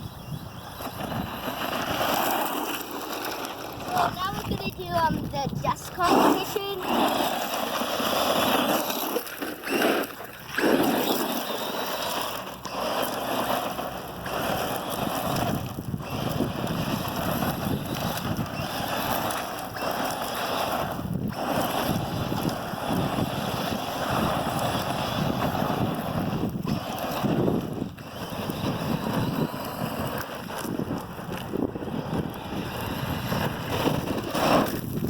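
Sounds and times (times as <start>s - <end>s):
rc truck tyres spinning on dirt: 0.0s - 35.0s.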